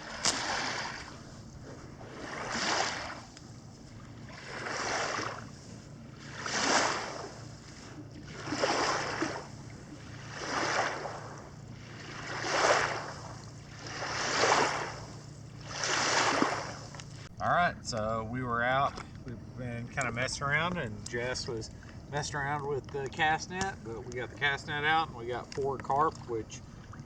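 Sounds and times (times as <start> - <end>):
faint low hum: 0.0 - 27.0
small waves washing ashore: 0.0 - 27.0.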